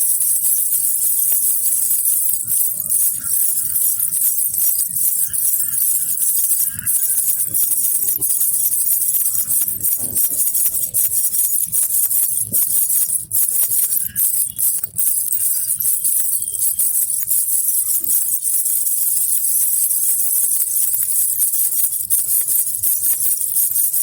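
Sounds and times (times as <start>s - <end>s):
baby rattle jingle bells shaken: 0.0s - 24.0s.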